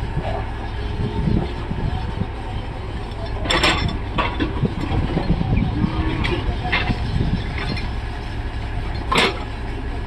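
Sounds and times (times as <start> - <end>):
backhoe engine rumbling: 0.0 - 10.0.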